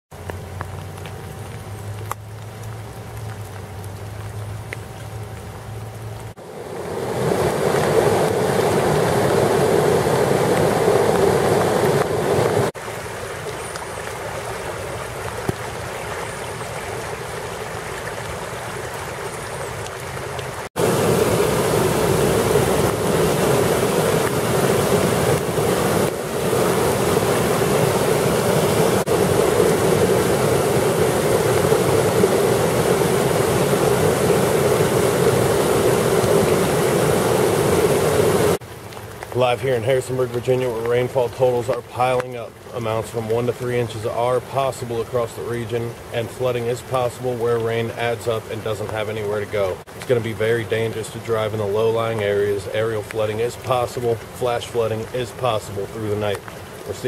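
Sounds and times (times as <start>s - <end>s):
stream rushing over a ledge: 6.2s - 57.0s.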